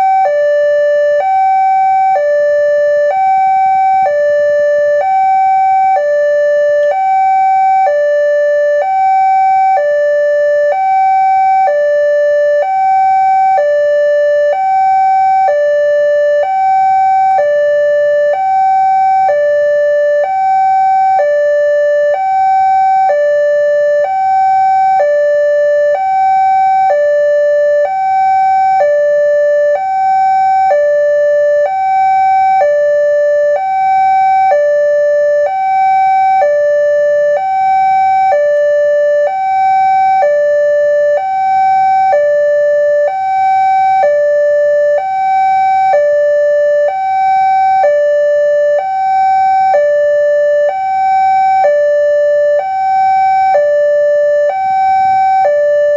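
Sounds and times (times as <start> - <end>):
level crossing two-tone alarm: 0.0 - 55.9.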